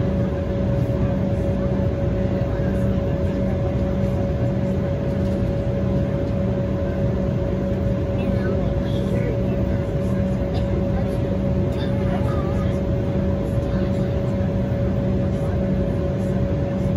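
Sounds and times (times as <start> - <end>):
jet engine cabin rumble: 0.0 - 16.9.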